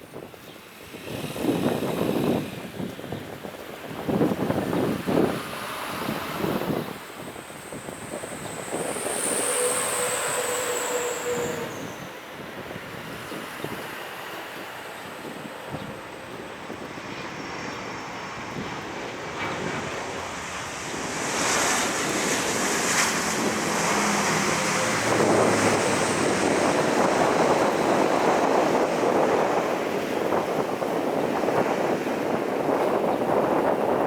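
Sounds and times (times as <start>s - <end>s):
jet airliner engines rushing: 0.0s - 34.0s
wind on microphone: 0.0s - 34.0s.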